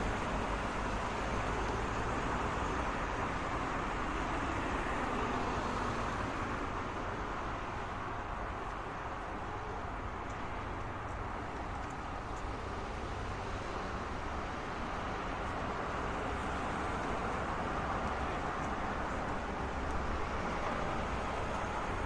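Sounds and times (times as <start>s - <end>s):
road traffic noise: 0.0s - 22.0s.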